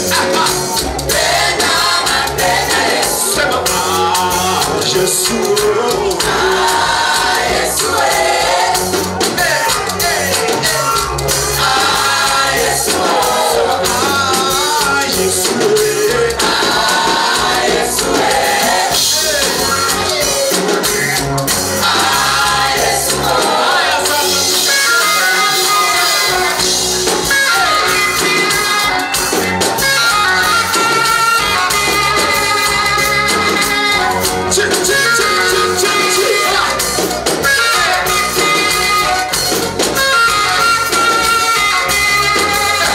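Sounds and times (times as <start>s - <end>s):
gospel singing with band: 0.0s - 42.9s.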